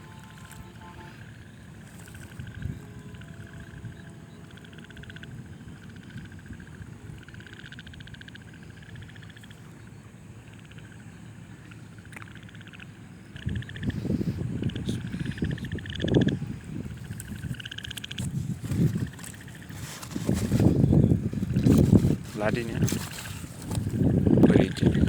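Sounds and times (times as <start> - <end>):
frogs trilling: 0.0 - 25.0.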